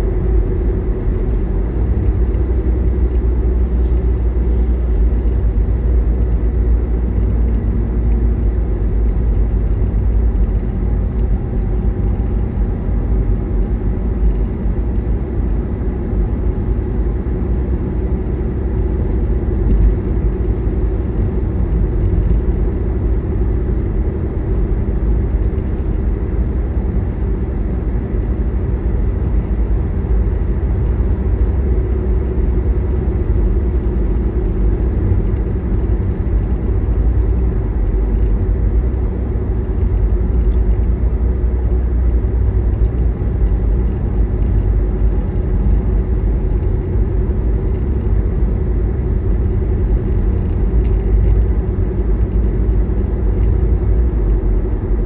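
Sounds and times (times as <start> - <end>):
car engine drone: 0.0 - 55.0
tyre and road noise: 0.0 - 55.0.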